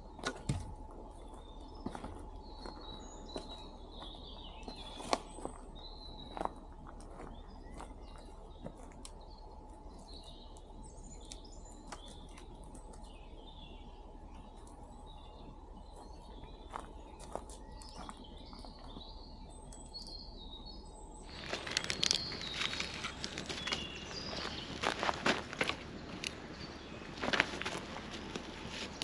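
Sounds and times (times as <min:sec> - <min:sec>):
faint steady hum: 0:00.0 - 0:29.0
small birds chirping: 0:00.0 - 0:29.0.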